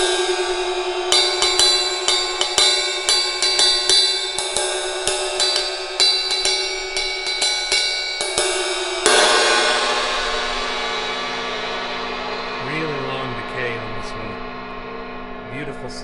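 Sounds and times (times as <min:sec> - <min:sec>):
ride cymbal struck: 0:00.0 - 0:16.0.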